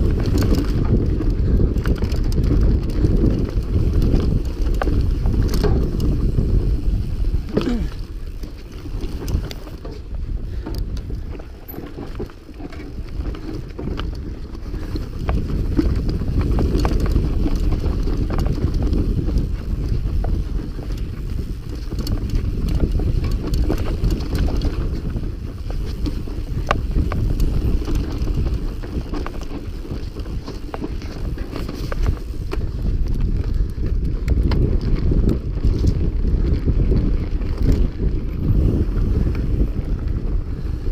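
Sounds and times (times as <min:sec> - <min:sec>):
bike rattling over rough trail: 0:00.0 - 0:40.9
wind buffeting microphone: 0:00.0 - 0:40.9.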